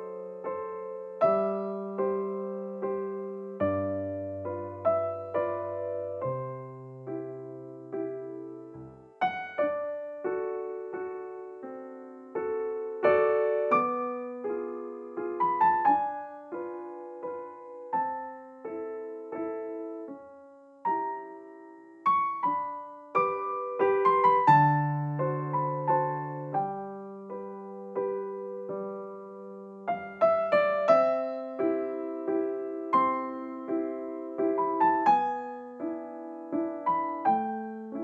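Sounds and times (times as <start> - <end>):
gentle piano music: 0.0 - 38.0.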